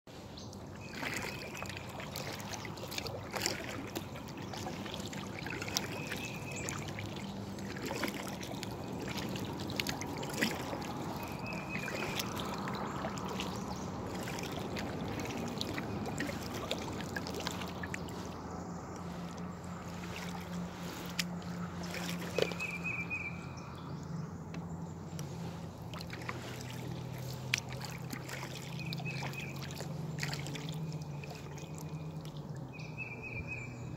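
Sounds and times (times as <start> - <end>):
paddle splashing in water: 0.1 - 23.5, 24.6 - 33.9.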